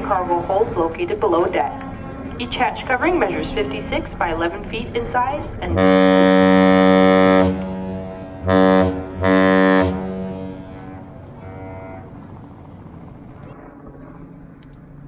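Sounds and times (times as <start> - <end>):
deep horn blasts: 0.0 - 13.6.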